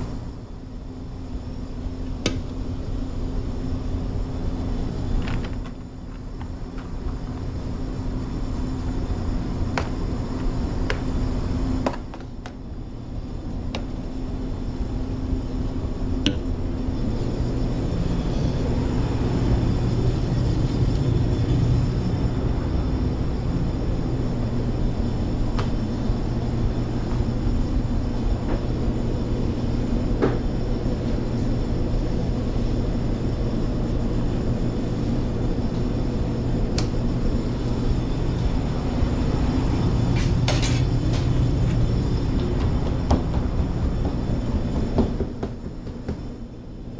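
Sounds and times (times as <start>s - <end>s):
kitchen equipment hum: 0.0s - 46.9s.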